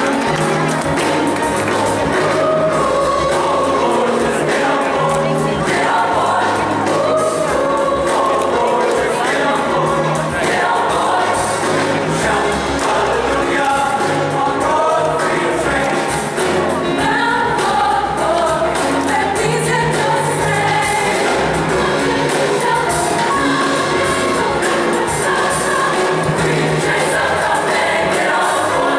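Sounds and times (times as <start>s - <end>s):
choir singing: 0.0s - 28.9s.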